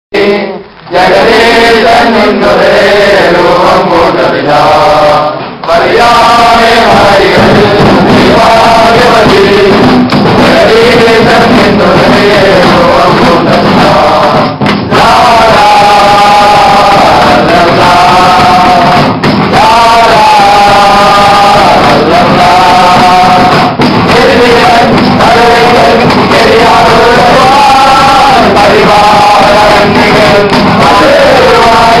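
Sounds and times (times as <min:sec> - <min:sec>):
men singing a carol: 0:00.2 - 0:32.0.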